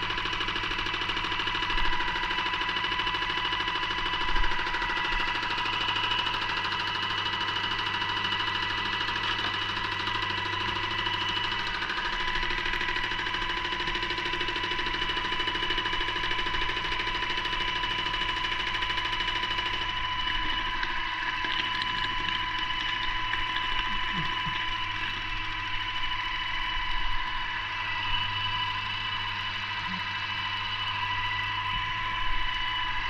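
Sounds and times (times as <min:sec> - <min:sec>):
paint sprayer whining: 0:00.0 - 0:33.0.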